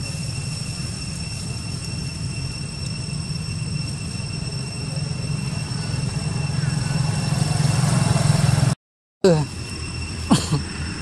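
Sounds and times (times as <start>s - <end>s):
engine rumbling: 0.0s - 11.0s
high-pitched whine: 0.0s - 11.0s.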